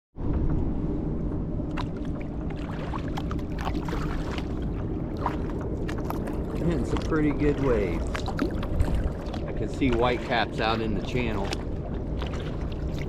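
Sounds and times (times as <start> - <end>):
wind rumbling on microphone: 0.2 - 13.0
waves slapping against kayak hull: 1.6 - 13.0.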